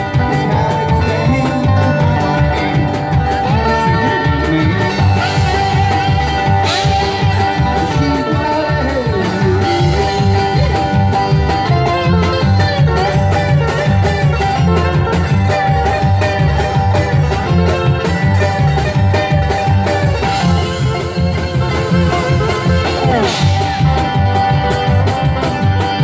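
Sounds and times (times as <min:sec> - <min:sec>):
acoustic guitar: 0:00.0 - 0:26.0
drums playing a steady beat: 0:00.0 - 0:26.0
upright bass: 0:00.0 - 0:26.0.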